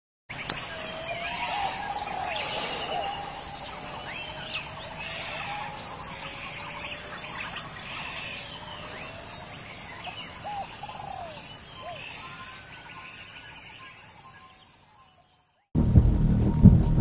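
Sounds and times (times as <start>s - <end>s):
wild birds calling and chirping: 0.3s - 15.7s
forest background sound: 0.3s - 16.8s.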